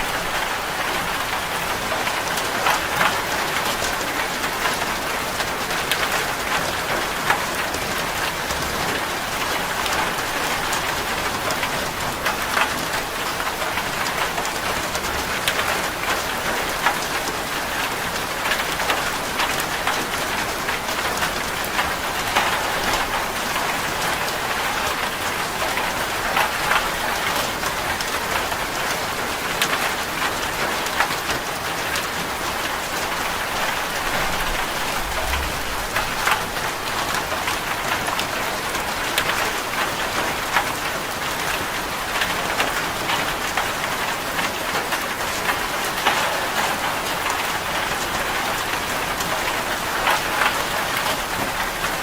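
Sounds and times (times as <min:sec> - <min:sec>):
rain on a metal roof: 0:00.0 - 0:52.0.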